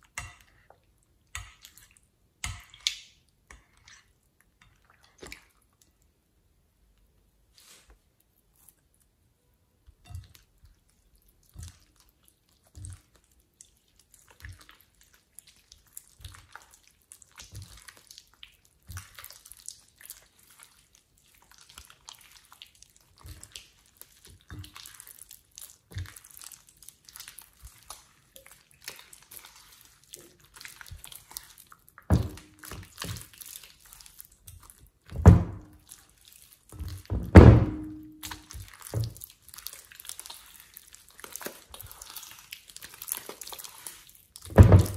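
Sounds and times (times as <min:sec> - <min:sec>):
slime squelching: 0:00.0 - 0:06.2, 0:07.5 - 0:44.9.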